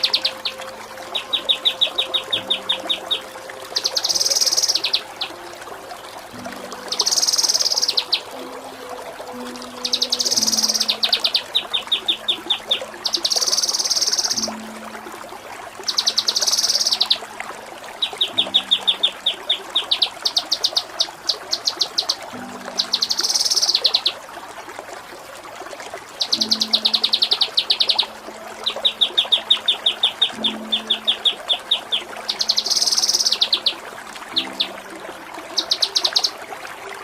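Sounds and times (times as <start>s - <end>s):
songbird singing rapid high trills: 0.0s - 5.6s, 6.7s - 14.6s, 15.9s - 17.2s, 18.0s - 24.2s, 26.2s - 34.9s, 35.5s - 36.4s.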